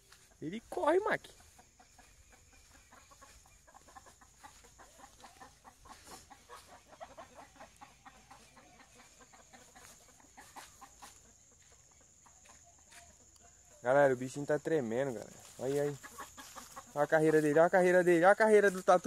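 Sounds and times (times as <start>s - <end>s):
chickens clucking: 0.0s - 19.0s
steady high-pitched hiss: 0.0s - 19.0s.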